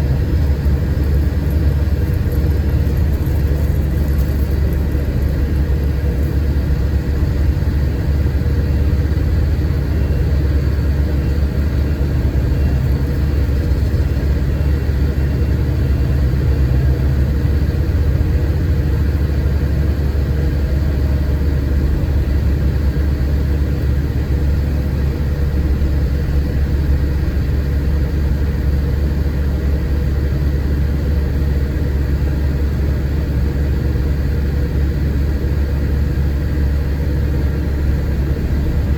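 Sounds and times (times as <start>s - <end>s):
diesel engine deep hum: 0.0s - 38.9s.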